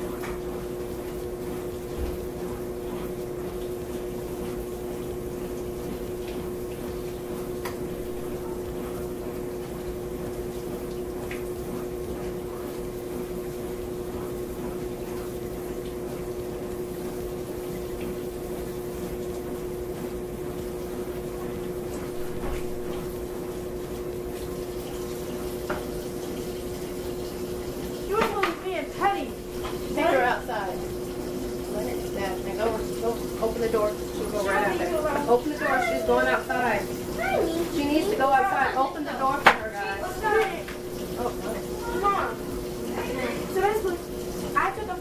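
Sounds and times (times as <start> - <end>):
faucet running into sink: 0.0 - 45.0.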